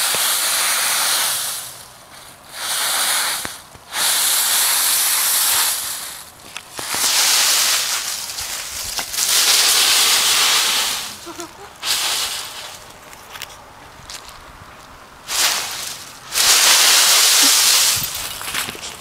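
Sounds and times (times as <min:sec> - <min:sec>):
loud hissing bursts: 0:00.0 - 0:13.0, 0:15.2 - 0:19.0.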